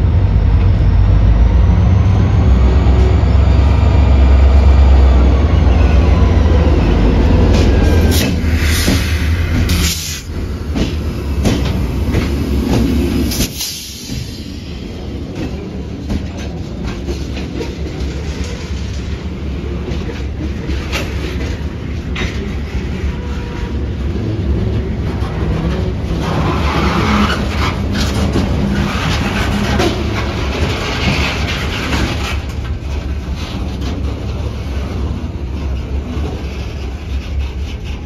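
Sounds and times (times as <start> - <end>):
diesel locomotive engines: 0.0 - 38.0
train wheels clicking over rail joints: 7.3 - 38.0.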